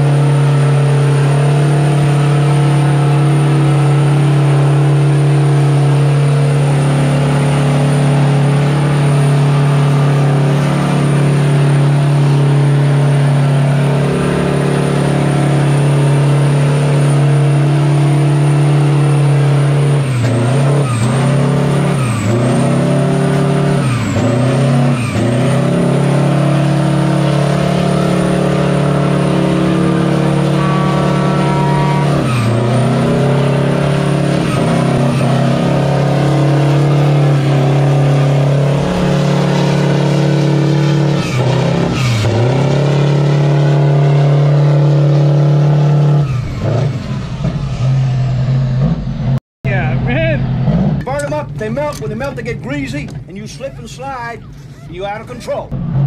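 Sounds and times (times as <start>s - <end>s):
truck diesel engine revving: 0.0s - 56.0s.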